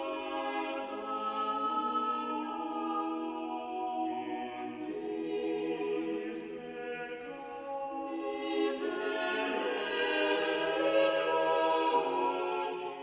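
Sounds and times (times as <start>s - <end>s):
church choir singing: 0.0s - 13.0s.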